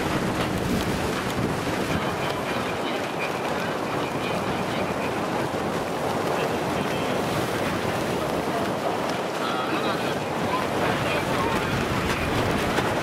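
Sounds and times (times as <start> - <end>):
choppy water: 0.0 - 13.0
wind on microphone: 0.0 - 13.0.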